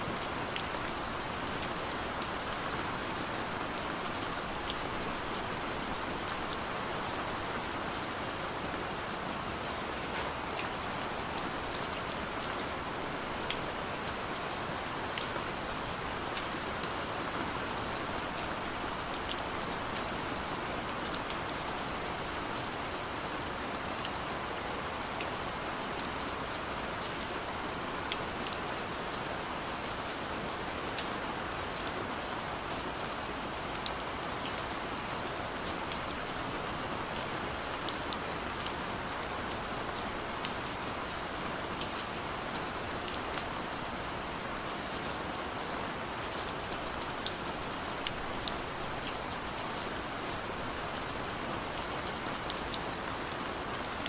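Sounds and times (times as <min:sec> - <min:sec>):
raindrops ticking on a surface: 0:00.2 - 0:54.0.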